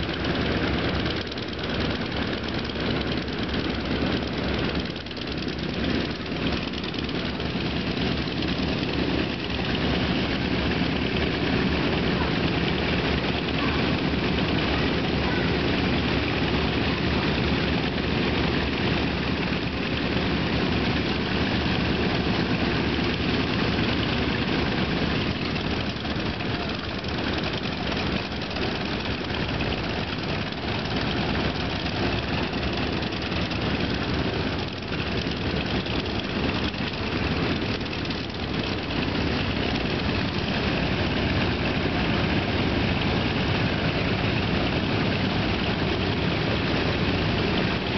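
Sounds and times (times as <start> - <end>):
propeller aircraft engines idling: 0.0 - 47.9.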